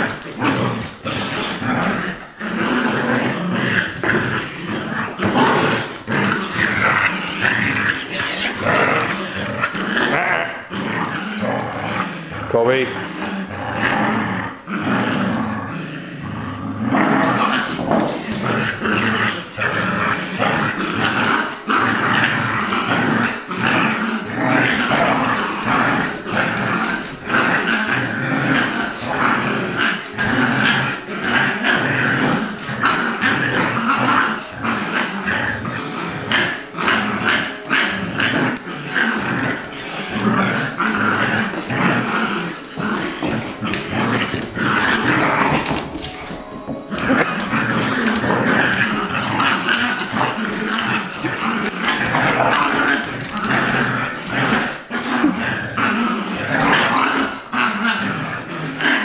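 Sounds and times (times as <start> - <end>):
dogs growling in play: 0.0 - 59.0.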